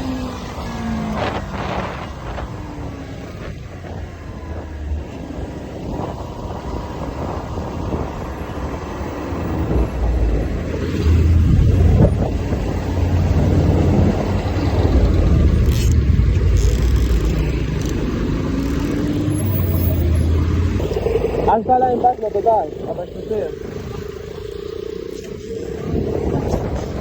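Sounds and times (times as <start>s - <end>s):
wind rumble: 0.0s - 27.0s.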